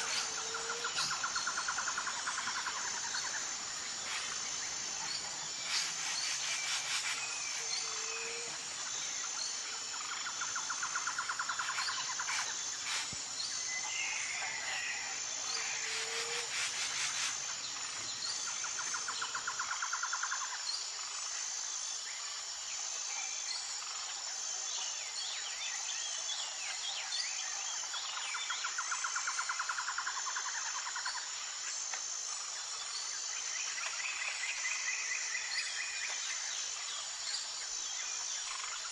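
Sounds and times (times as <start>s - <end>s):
high insect drone: 0.0s - 38.9s
rapid insect trill: 0.0s - 38.9s.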